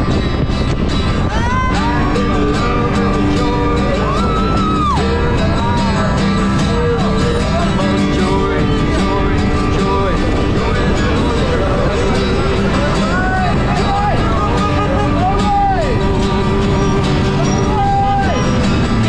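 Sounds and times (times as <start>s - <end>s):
guitar: 0.0s - 19.0s
person singing: 1.2s - 19.0s.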